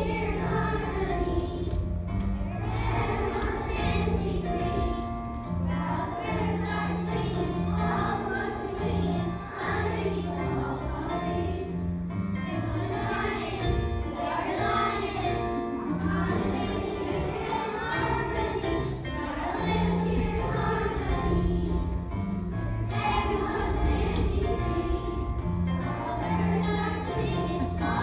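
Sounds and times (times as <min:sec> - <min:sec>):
voices singing together: 0:00.0 - 0:01.8, 0:02.5 - 0:11.8, 0:12.4 - 0:22.1, 0:22.8 - 0:28.0.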